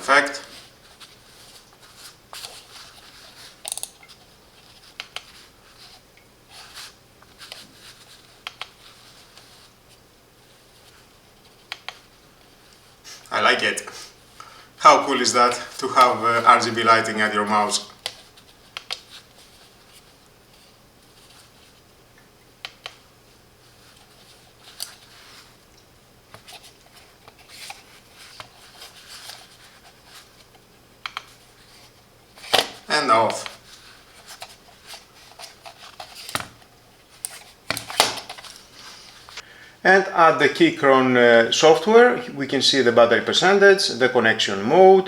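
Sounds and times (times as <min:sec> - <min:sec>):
soft handling noise: 0:00.0 - 0:39.5.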